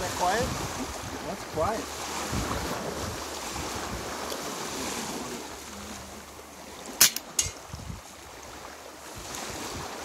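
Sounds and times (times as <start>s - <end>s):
surf: 0.0s - 10.0s
wind: 0.0s - 10.0s.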